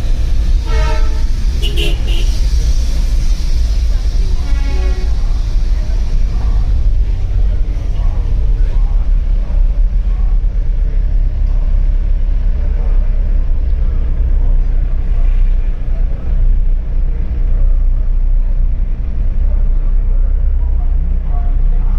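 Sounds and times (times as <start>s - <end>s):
train rumbling: 0.0s - 21.9s
faint voices: 1.6s - 21.9s.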